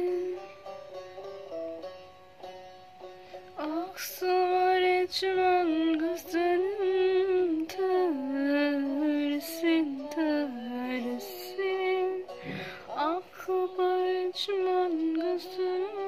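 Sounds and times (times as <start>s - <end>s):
woman singing slow song: 0.0s - 0.6s, 3.6s - 16.0s
quiet instrumental backing: 0.0s - 16.0s.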